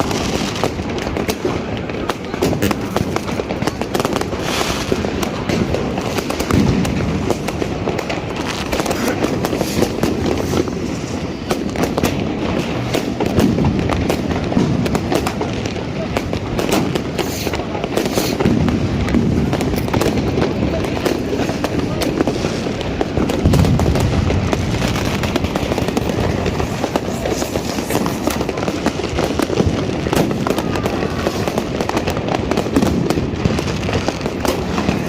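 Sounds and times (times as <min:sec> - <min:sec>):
fireworks and firecrackers banging: 0:00.0 - 0:35.0.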